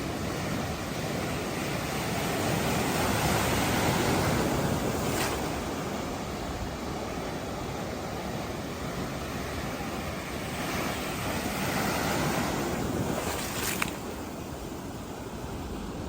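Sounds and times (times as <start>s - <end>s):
sea waves breaking on a beach: 0.0s - 16.0s.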